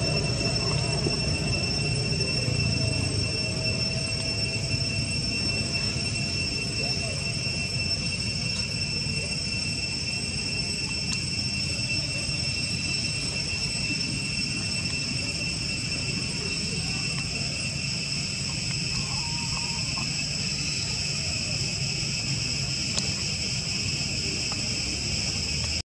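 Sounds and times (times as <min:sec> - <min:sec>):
insects droning: 0:00.0 - 0:25.8.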